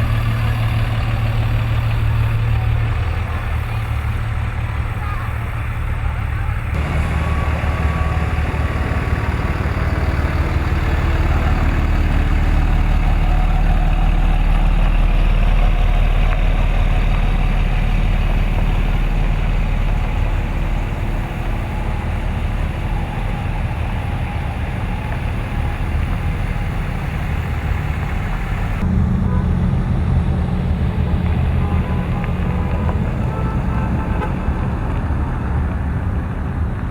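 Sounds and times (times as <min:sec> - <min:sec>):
truck engines rumbling: 0:00.0 - 0:36.9.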